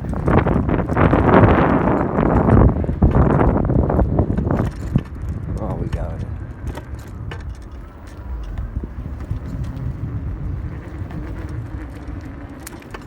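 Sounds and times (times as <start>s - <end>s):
electric motor whine: 0.0s - 13.0s
wind and tyre noise: 0.0s - 13.0s.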